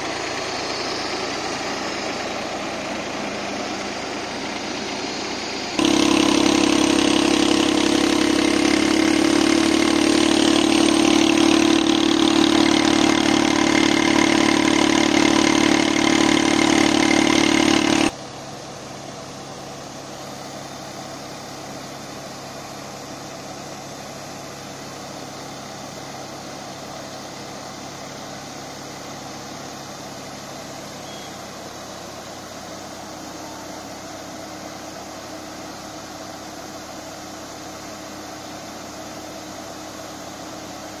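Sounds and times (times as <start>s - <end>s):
sprayer fan rushing air: 0.0s - 18.2s, 19.2s - 41.0s
engine humming: 0.0s - 41.0s.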